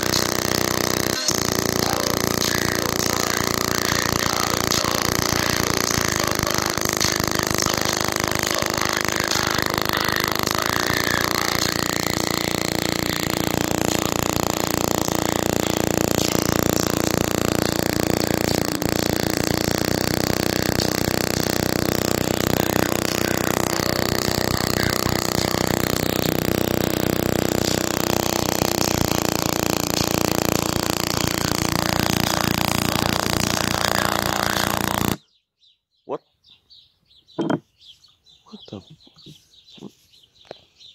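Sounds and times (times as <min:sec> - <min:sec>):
distorted bass-heavy audio from speaker: 0:00.0 - 0:35.2.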